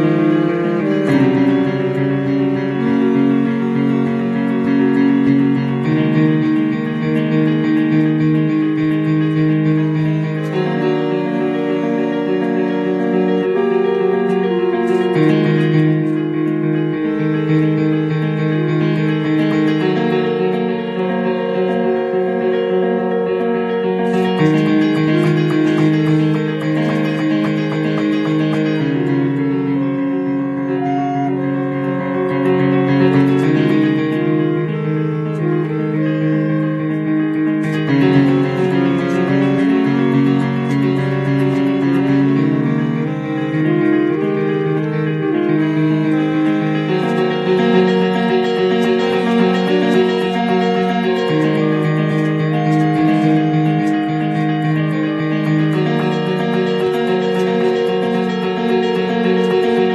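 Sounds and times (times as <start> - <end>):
keyboard playing slow chords: 0.0 - 59.9.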